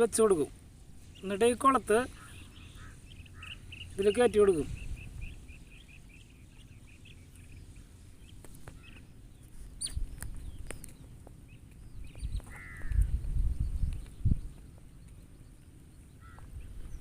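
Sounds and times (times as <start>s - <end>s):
short bird calls: 1.0s - 11.0s, 11.9s - 14.6s, 16.0s - 17.0s.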